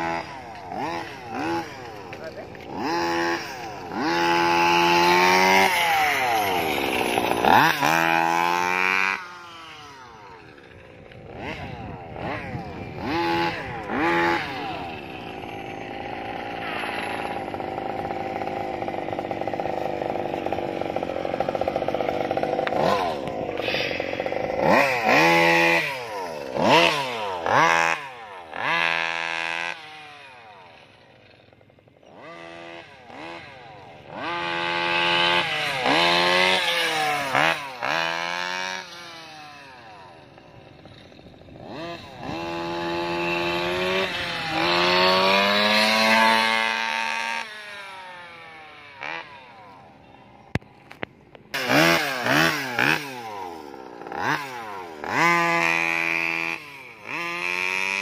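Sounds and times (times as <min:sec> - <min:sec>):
small two-stroke engine revving: 0:00.0 - 0:58.0.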